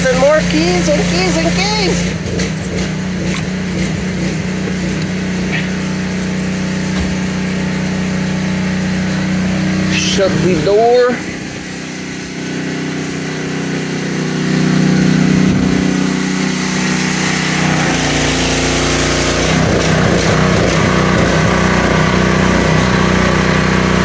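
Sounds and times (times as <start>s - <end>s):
car engine idling: 0.0s - 24.0s
deep rough rumble: 0.0s - 24.0s.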